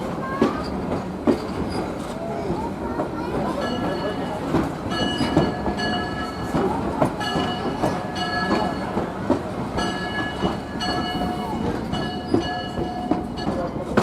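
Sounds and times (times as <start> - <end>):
railroad car rumbling: 0.0 - 14.0
wheels clacking over rail joints: 0.1 - 14.0.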